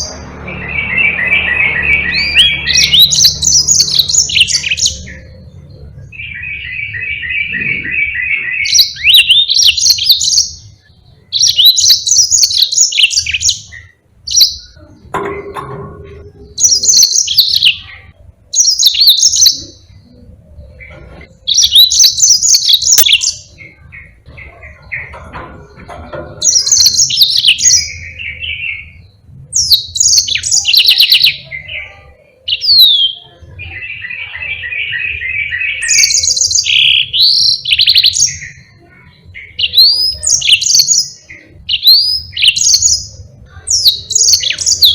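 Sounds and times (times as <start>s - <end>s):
canary singing warbled trills: 0.0s - 44.9s.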